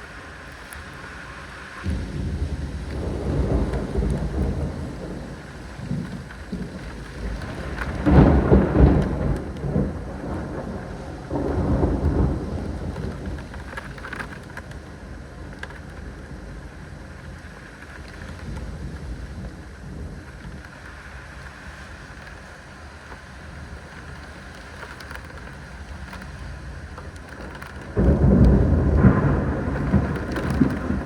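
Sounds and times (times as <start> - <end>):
steady rain: 0.0 - 31.0
thunder rumbling: 1.8 - 17.5, 18.1 - 31.0.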